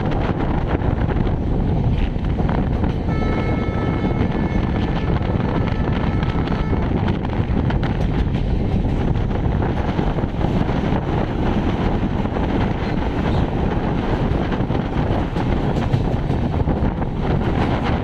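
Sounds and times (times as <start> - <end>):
train wheels rumbling on rails: 0.0 - 18.0
wind buffeting microphone: 0.0 - 18.0.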